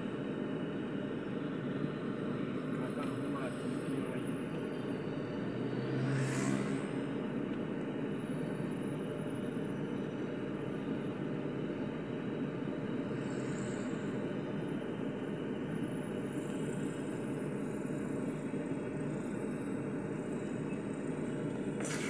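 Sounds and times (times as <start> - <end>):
engine low rumble: 0.0 - 22.0.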